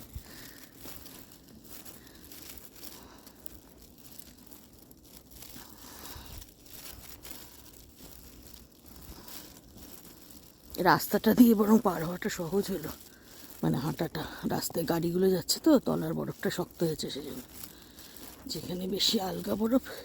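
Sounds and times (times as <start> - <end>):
footsteps crunching through snow: 0.0 - 20.0.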